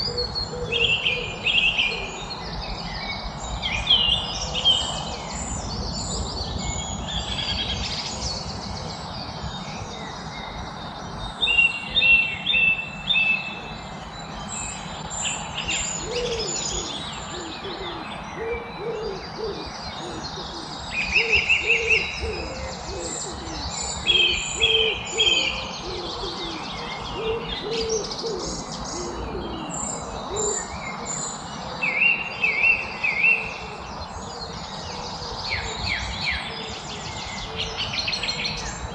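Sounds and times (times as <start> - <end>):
birds singing and chirping: 0.0 - 38.9
outdoor background hiss: 0.0 - 38.9.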